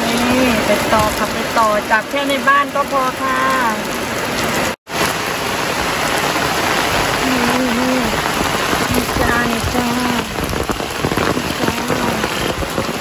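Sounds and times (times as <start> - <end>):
heavy rain on wet ground: 0.0 - 13.0.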